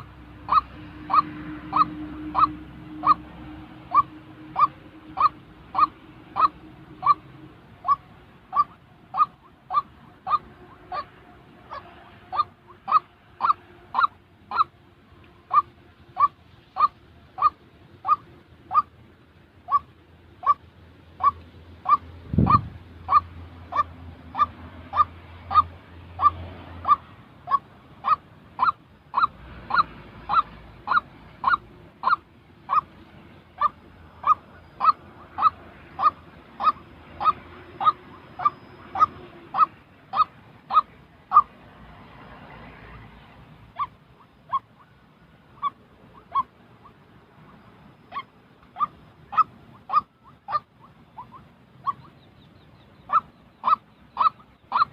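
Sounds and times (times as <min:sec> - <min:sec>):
waterhen calling: 0:00.0 - 0:54.9.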